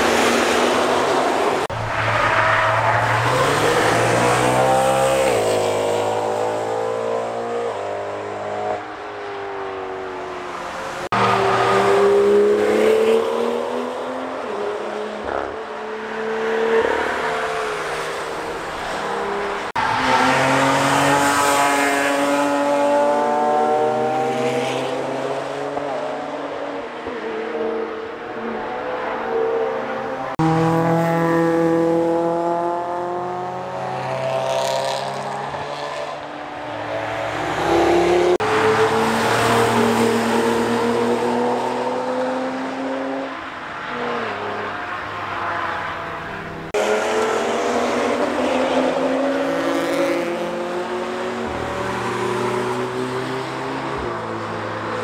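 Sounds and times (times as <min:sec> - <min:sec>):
race cars driving past: 0:00.0 - 0:55.0.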